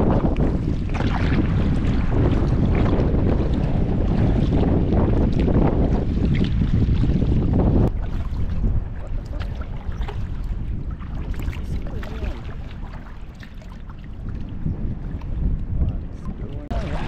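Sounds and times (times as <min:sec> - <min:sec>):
waves lapping against kayak hull: 0:00.0 - 0:17.0
wind buffeting microphone: 0:00.0 - 0:17.0.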